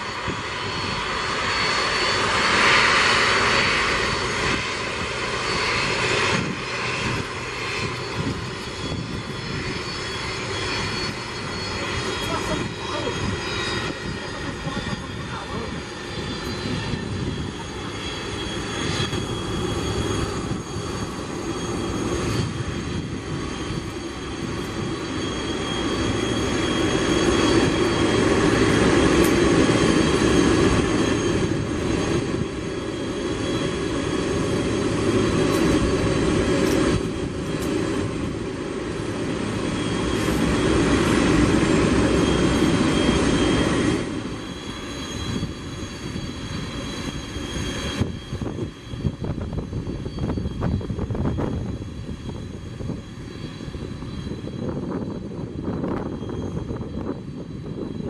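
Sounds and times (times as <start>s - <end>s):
jet engines with high whine: 0.0s - 58.0s.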